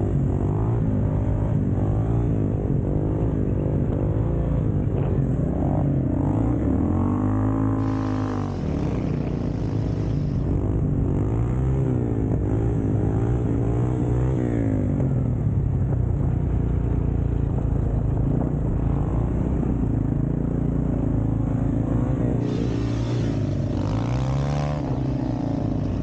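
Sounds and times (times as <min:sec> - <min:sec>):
distant quad revving: 0:00.0 - 0:15.4, 0:16.4 - 0:26.0.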